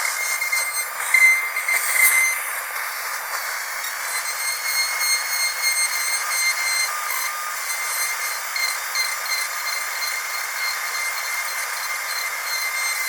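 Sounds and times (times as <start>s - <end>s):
dentist's drill whining: 0.0s - 13.0s.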